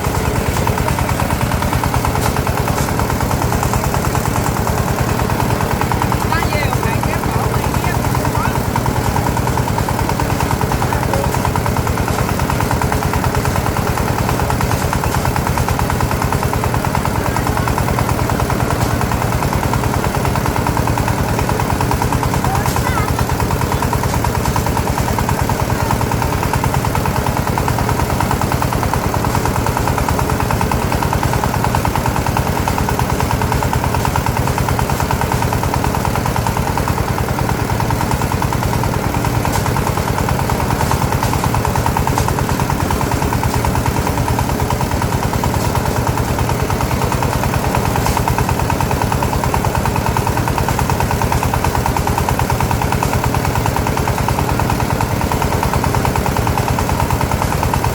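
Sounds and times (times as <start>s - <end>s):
small engine chugging: 0.0s - 57.9s.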